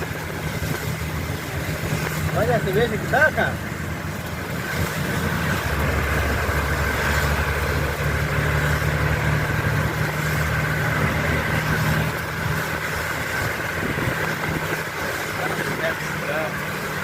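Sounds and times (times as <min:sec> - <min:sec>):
heavy rain hissing: 0:00.0 - 0:17.0
vehicle engines idling: 0:00.0 - 0:17.0.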